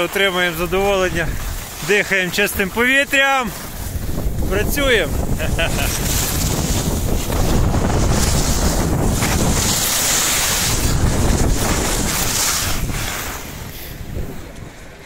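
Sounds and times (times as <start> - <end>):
skis sliding over packed snow: 0.0 - 15.0
wind buffeting microphone: 0.0 - 15.0.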